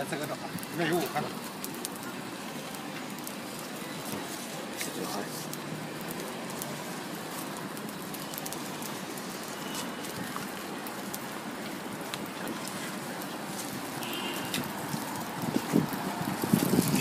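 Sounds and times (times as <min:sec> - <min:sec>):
light crackles: 0:00.0 - 0:17.0
pancakes sizzling on griddle: 0:00.0 - 0:17.0.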